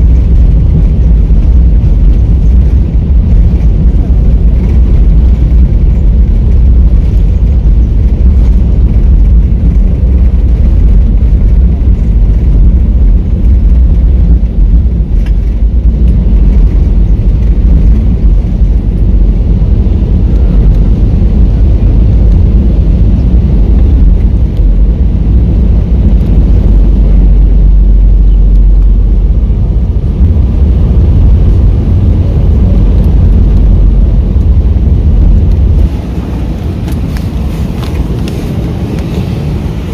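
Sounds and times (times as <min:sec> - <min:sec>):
jet engine noise in cabin: 0:00.0 - 0:39.9
wheel rumble on runway: 0:00.0 - 0:39.9.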